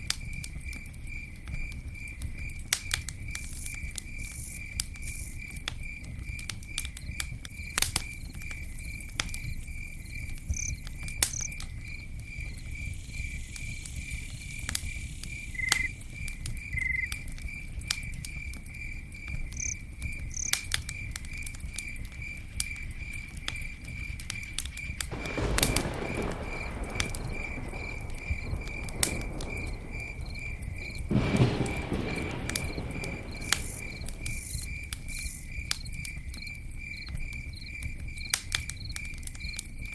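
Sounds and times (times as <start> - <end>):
campfire crackling and popping: 0.0 - 39.9
cricket chirping: 0.0 - 39.9.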